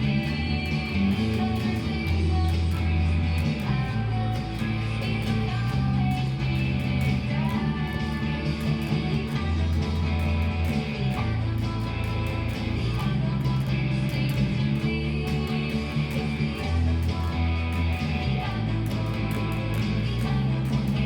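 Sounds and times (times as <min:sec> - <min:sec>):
bass line: 0:00.0 - 0:21.0
strummed guitar: 0:00.0 - 0:21.0.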